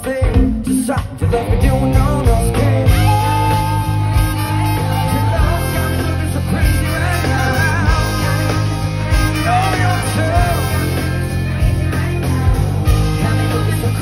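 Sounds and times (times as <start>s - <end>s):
live band with guitar and drums: 0.0s - 14.0s.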